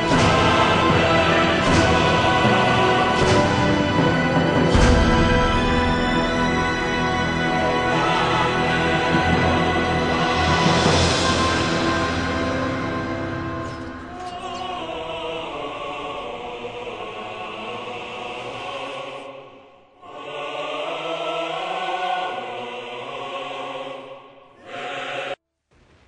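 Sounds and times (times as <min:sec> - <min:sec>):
choral music with held notes: 0:00.0 - 0:25.4.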